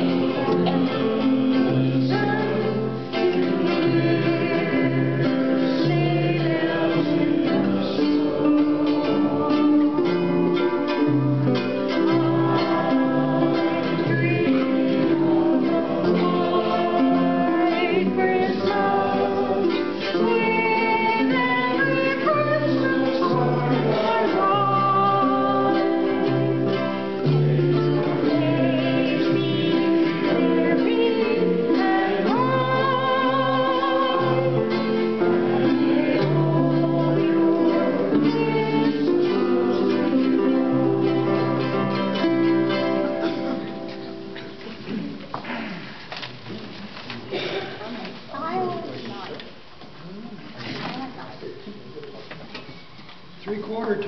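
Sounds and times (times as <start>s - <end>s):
people singing: 0.0s - 45.8s
ukuleles strummed: 0.0s - 50.0s.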